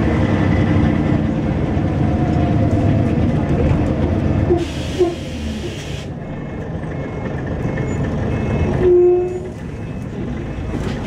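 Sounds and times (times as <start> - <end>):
diesel bus engine running: 0.0 - 11.0.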